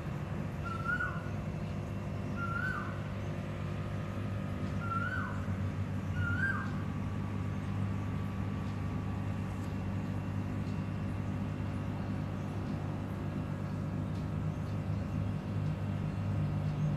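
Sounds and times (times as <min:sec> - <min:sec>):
low mechanical hum: 0:00.0 - 0:16.9.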